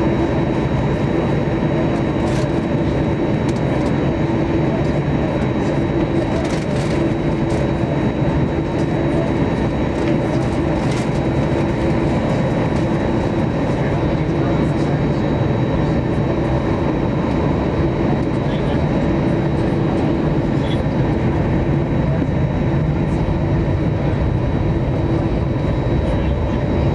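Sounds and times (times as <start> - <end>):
jet engines rumbling in cabin: 0.0 - 26.9.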